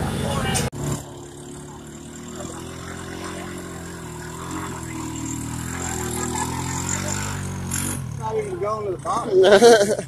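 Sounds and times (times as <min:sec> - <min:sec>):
vehicle engine driving through mud: 0:00.0 - 0:10.0.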